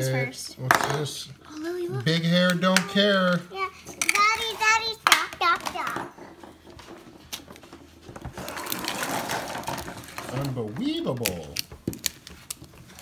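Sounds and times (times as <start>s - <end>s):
toy packaging rustling and clicking: 1.5s - 13.0s.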